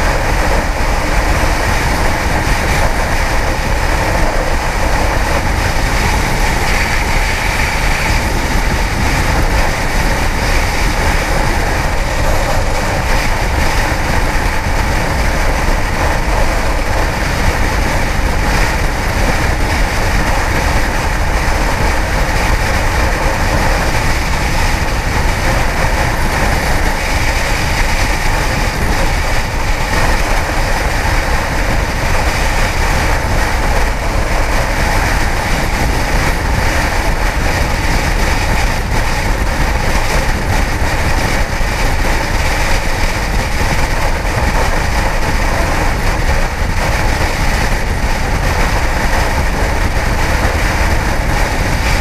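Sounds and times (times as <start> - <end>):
motorcycle engine steady: 0.0 - 52.0
wind rushing over microphone: 0.0 - 52.0.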